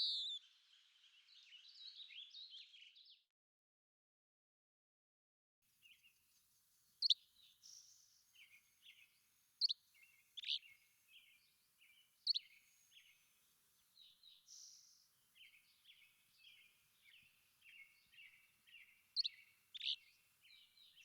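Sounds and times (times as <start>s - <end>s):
birds chirping: 0.0s - 2.9s, 7.0s - 21.0s.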